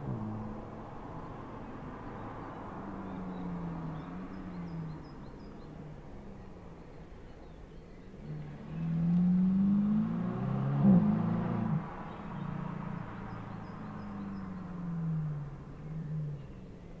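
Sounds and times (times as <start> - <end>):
distant car engine hum: 0.0 - 17.0
faint bird chirps: 1.2 - 10.0, 11.9 - 17.0.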